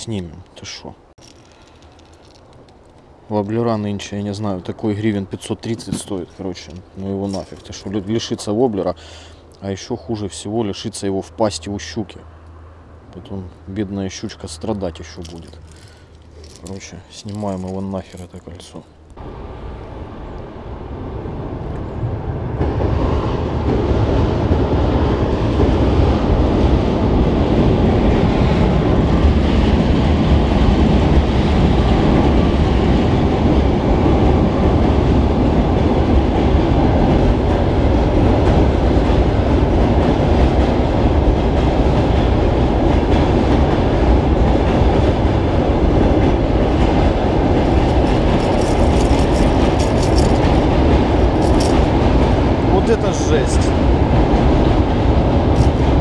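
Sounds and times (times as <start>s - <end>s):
train crossing steel bridge: 0.0s - 56.0s.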